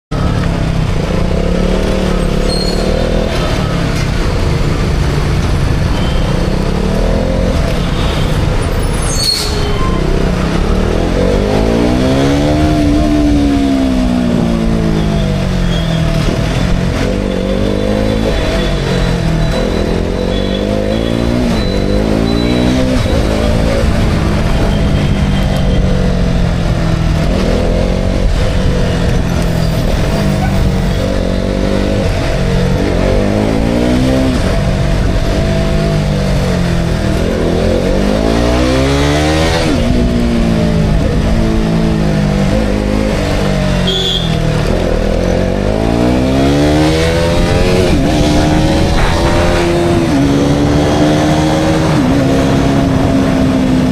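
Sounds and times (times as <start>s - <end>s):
motorcycle engine revving: 0.1s - 53.9s.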